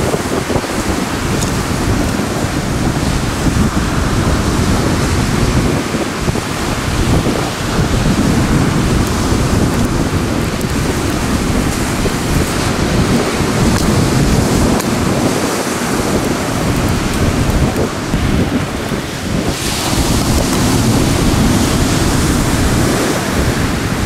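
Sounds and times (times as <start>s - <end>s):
surf on pebble beach: 0.0s - 24.0s
wind buffeting microphone: 0.0s - 24.0s.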